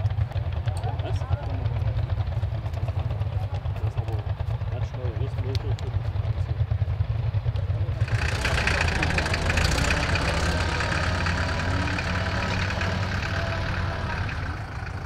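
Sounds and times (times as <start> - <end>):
tractor engine throbbing: 0.0 - 15.0.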